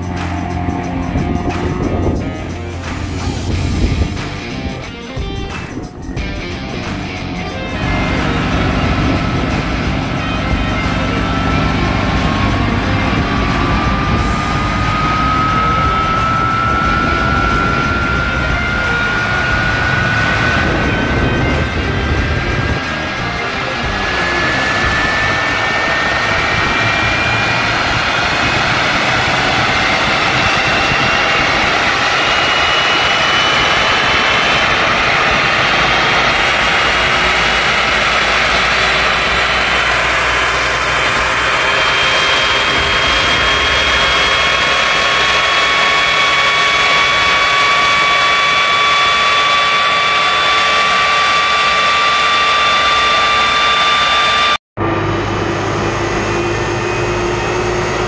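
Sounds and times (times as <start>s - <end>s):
jet engine roaring with rising whine: 0.0s - 58.0s.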